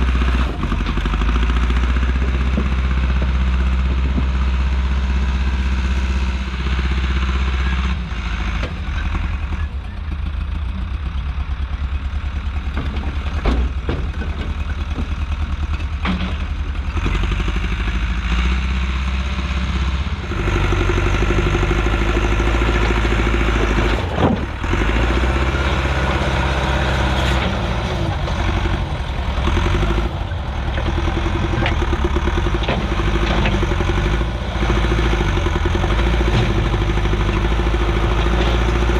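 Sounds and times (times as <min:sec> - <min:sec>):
track loader engine running: 0:00.0 - 0:38.9.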